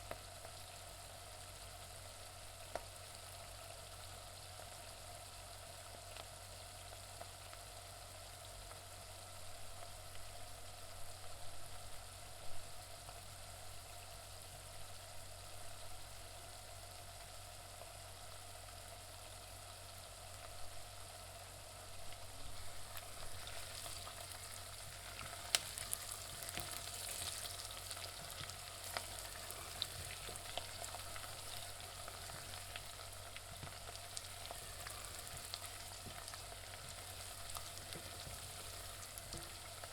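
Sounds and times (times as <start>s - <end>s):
onions sizzling in a pan: 0.0s - 39.9s.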